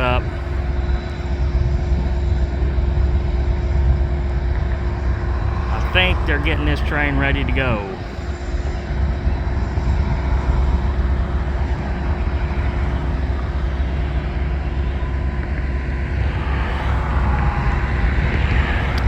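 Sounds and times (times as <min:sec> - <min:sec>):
diesel locomotive idling: 0:00.0 - 0:19.0.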